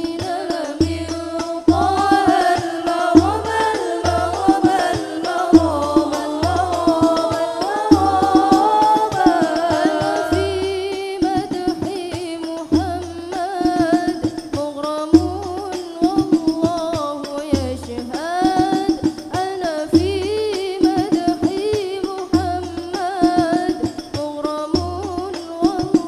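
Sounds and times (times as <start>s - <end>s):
frame drums: 0.0s - 26.0s
women singing together: 0.0s - 26.0s.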